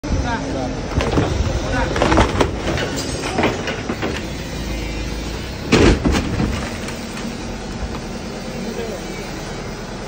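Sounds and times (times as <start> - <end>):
crane machinery rumbling: 0.1 - 10.0.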